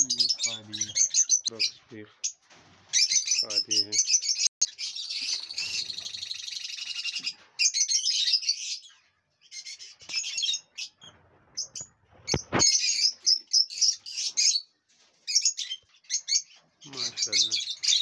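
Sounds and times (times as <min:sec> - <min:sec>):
lovebirds chirping and chattering: 0:00.0 - 0:18.0.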